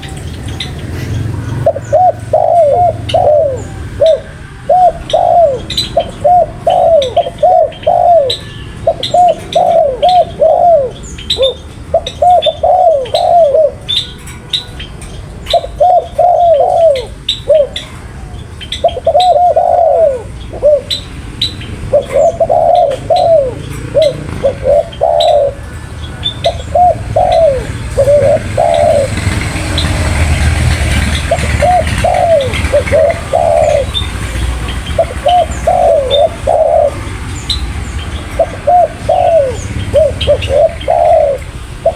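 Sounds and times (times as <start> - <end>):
dove cooing: 0.0 - 41.9
small birds chirping: 0.0 - 41.9.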